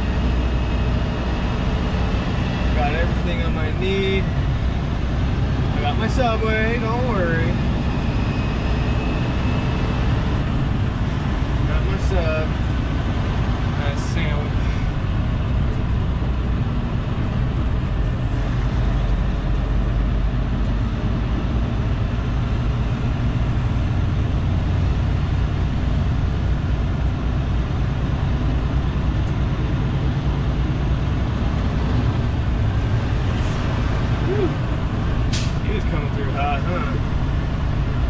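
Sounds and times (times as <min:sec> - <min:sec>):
cab and road noise: 0:00.0 - 0:38.0
diesel truck engine rumble: 0:00.0 - 0:38.0.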